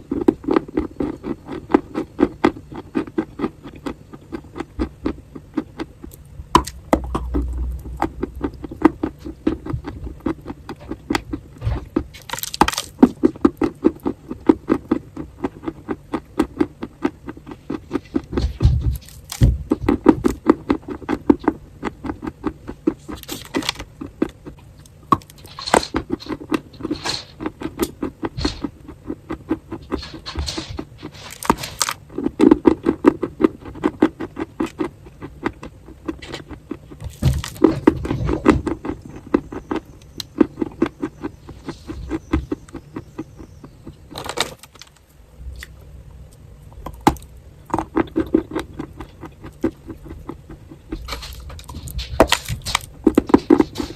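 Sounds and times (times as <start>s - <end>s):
crunching of chalk: 0.1s - 45.0s.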